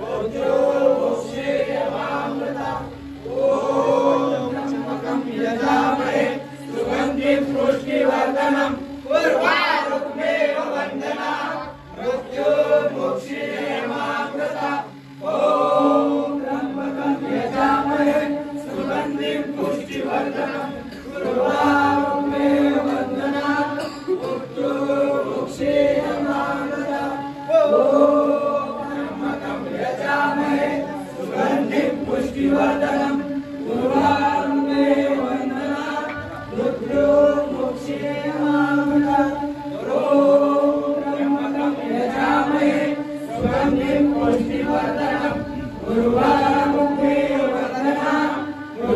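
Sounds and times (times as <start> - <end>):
men chanting together: 0.0 - 48.9.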